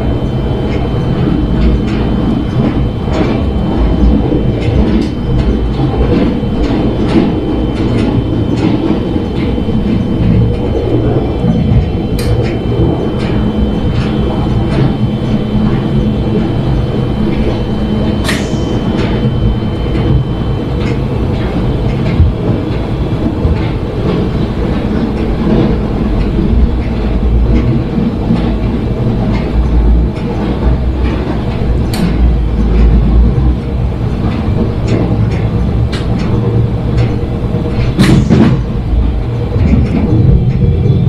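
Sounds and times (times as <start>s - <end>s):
thin high whine: 0.0s - 35.4s
train rumbling on rails: 0.0s - 41.0s.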